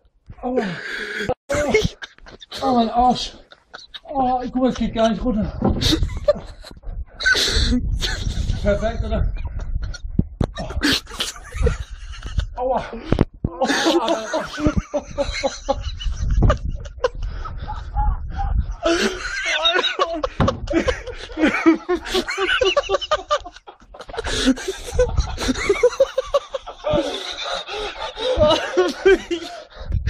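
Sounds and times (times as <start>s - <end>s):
people laughing: 1.5s - 5.2s, 5.8s - 29.7s.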